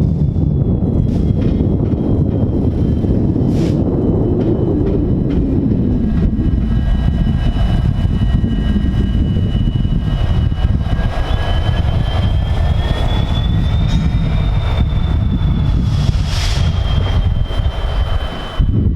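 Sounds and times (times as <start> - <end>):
locomotive engine rumbling: 0.0 - 18.9.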